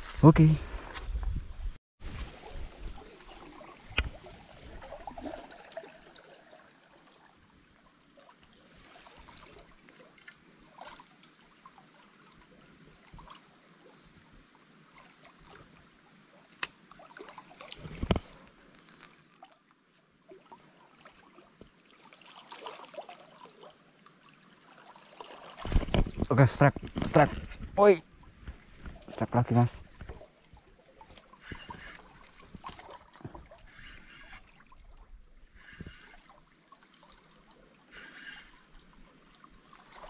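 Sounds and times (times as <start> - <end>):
high-pitched insect chorus: 0.0 - 1.8, 3.0 - 40.0.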